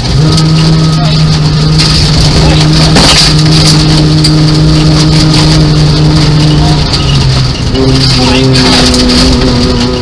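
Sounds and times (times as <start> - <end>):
gravel clattering against car: 0.0 - 10.0
rally car engine revving: 0.0 - 10.0.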